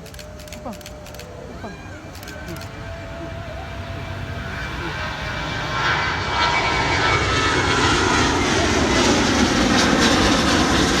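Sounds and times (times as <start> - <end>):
airliner engines passing: 0.0 - 11.0.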